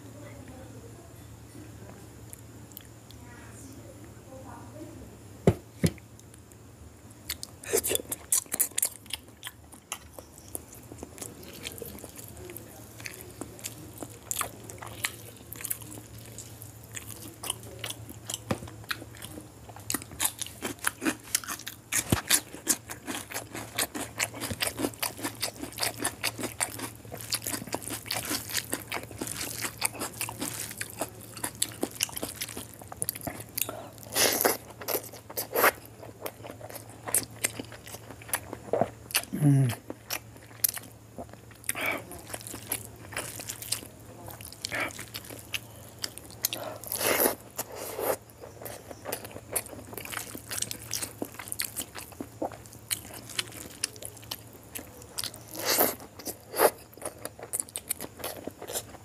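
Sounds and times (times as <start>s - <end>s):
faint low hum: 0.0s - 59.0s
wet chewing and lip smacking: 7.3s - 59.0s.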